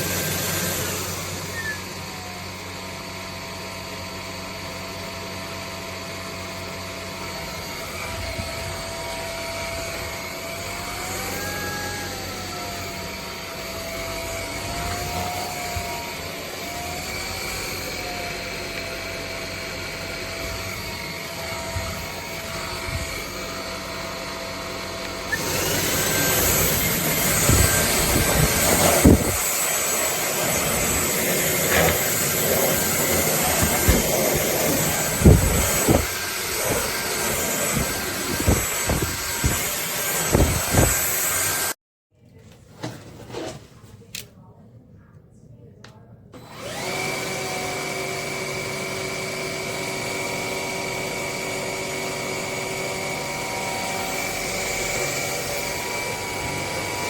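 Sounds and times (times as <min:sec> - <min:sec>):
stick vacuum motor whine: 0:00.0 - 0:41.8, 0:46.4 - 0:57.0.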